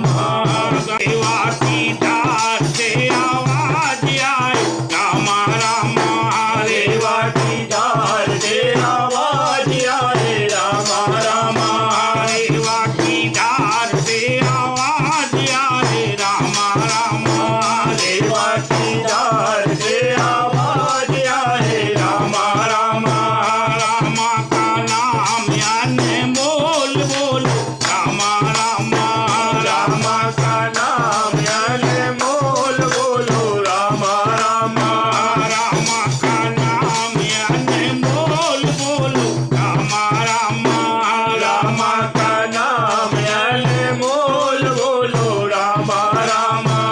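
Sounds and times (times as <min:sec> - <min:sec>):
person singing devotional song: 0:00.0 - 0:46.9
shaken rattle percussion: 0:00.0 - 0:46.9.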